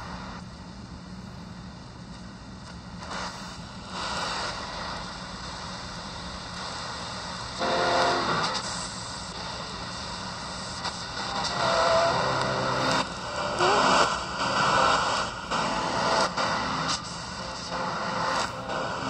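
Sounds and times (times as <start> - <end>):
shortwave radio static hissing: 0.0 - 19.0
radio station audio: 3.0 - 19.0.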